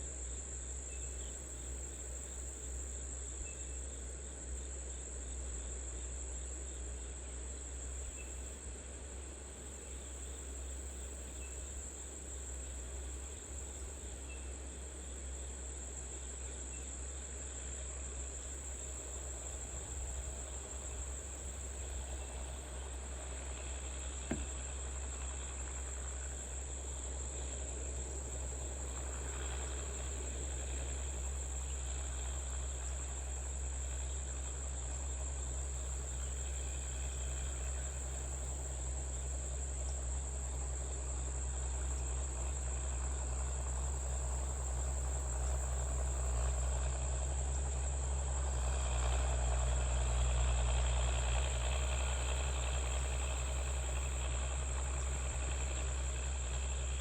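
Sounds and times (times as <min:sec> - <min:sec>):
crickets trilling: 0:00.2 - 0:57.0.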